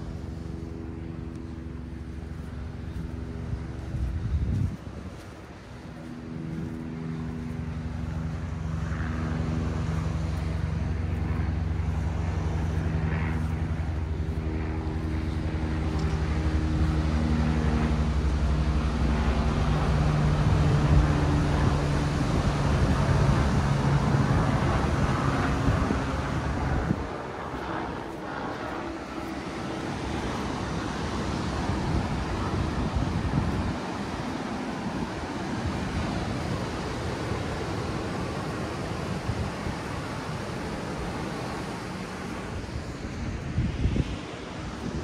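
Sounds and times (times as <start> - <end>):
engine humming: 0.0 - 45.0.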